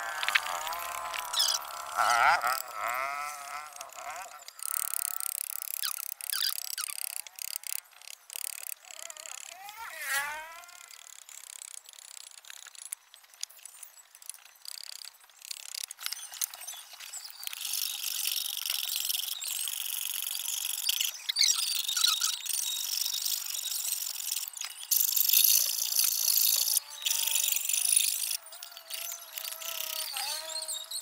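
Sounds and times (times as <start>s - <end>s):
small clicks: 0.0s - 30.7s.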